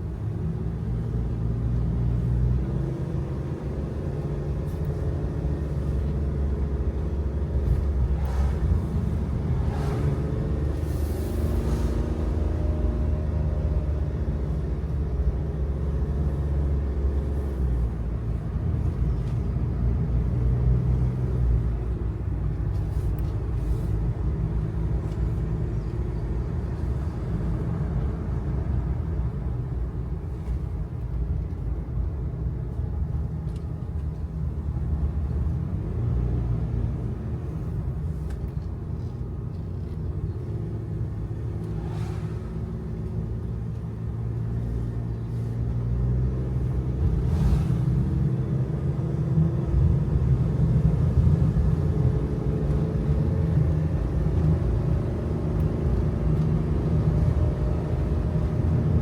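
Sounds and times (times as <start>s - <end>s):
road noise: 0.0s - 59.0s
truck engine hum: 0.0s - 59.0s.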